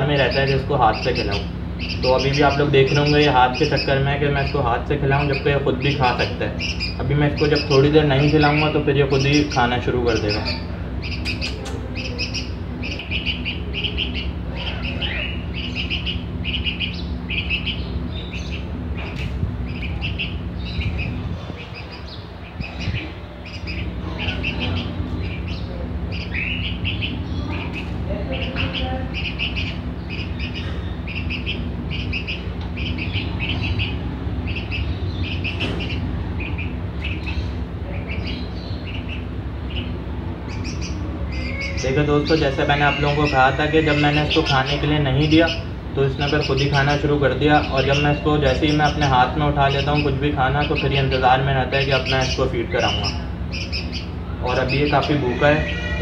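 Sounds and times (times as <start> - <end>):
bird chick chirping: 0.0 - 56.0
steady low hum: 0.0 - 56.0.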